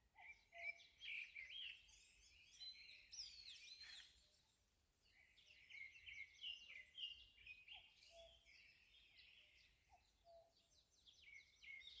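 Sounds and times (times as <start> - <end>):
small birds chirping and twittering: 0.0 - 12.0.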